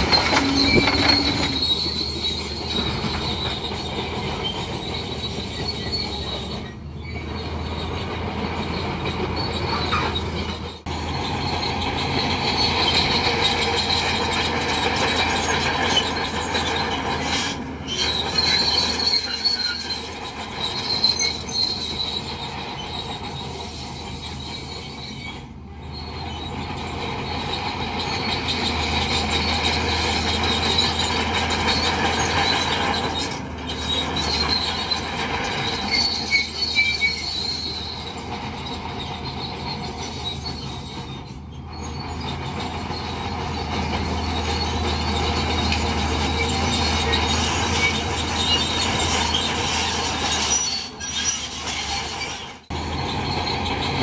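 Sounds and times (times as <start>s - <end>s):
bulldozer diesel engine: 0.0s - 54.0s
steel tracks squealing and clanking: 0.0s - 54.0s.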